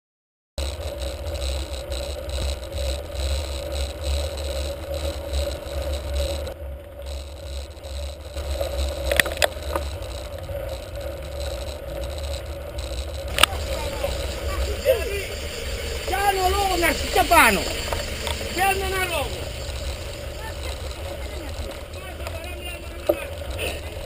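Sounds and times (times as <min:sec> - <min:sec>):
bike tyre noise and rattle: 0:00.6 - 0:24.0
sharp clicks: 0:00.6 - 0:24.0.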